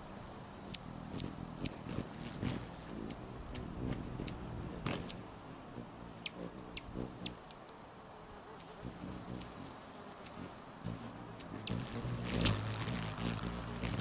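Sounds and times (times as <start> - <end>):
hummingbirds chipping: 0.0 - 14.0.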